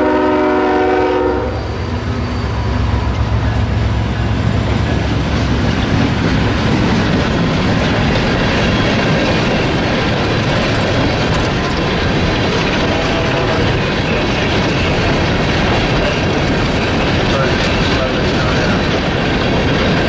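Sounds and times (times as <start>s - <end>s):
locomotive engine drone: 0.0s - 20.0s
train wheels rumbling on rails: 0.0s - 20.0s.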